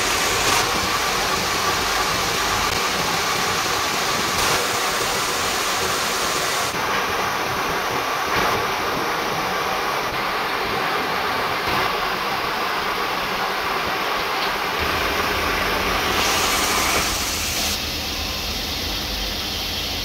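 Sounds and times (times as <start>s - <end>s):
gear-cutting machine running: 0.0s - 12.3s, 14.8s - 18.8s.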